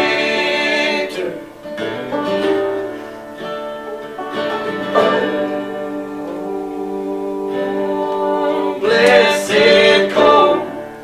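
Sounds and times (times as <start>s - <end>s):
banjo and guitar picking: 0.0s - 11.0s
long held chord: 0.0s - 11.0s.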